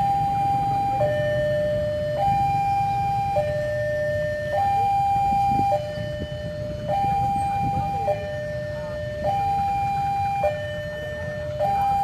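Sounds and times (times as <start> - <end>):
two-tone level crossing alarm: 0.0 - 12.0.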